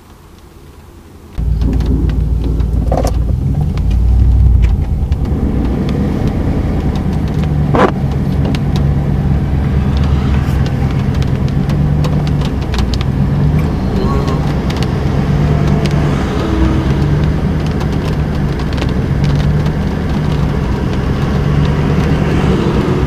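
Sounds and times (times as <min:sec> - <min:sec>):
car engine idling: 0:01.3 - 0:23.0
raindrops ticking on car: 0:01.4 - 0:23.0.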